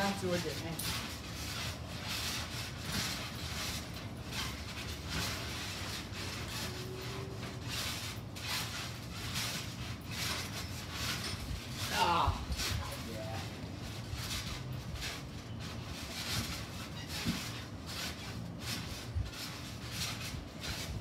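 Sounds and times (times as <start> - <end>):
trampoline rubbing swish: 0.0 - 21.0.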